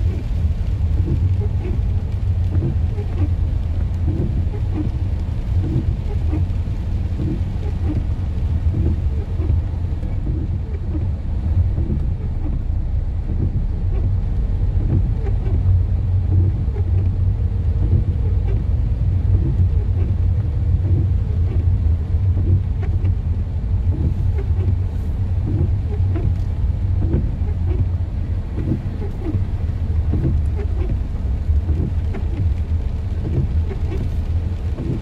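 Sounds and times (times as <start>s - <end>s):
car driving on wet road: 0.0s - 35.0s
faint rain taps: 0.0s - 35.0s.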